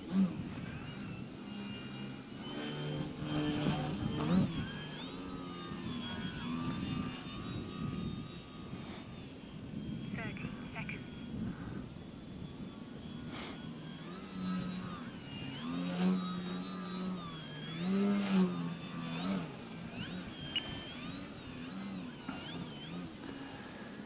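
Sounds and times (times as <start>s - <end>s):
rc plane motor whining: 0.0s - 24.0s
faint steady high tone: 0.5s - 24.0s.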